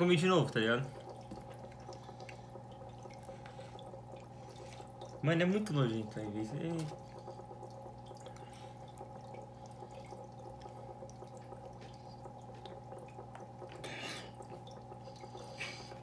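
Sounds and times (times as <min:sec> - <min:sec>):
steady low hum: 0:00.0 - 0:16.0
water dripping and trickling: 0:00.0 - 0:16.0.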